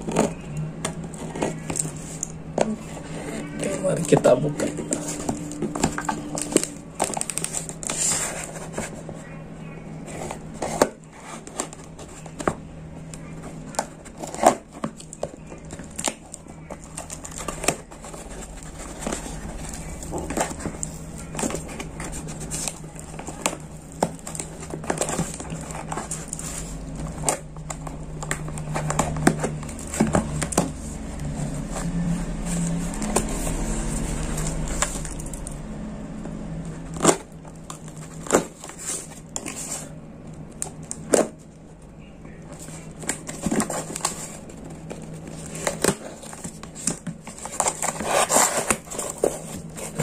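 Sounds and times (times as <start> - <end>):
packaging rustling and crinkling: 0.0 - 9.3, 10.0 - 35.6, 36.6 - 50.0
steady low hum: 0.0 - 50.0.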